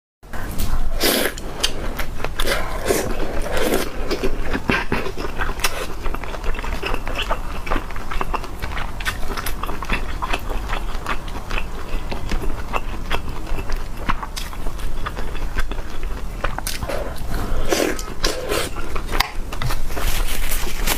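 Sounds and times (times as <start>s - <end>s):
person chewing crunchy food: 0.4s - 20.9s.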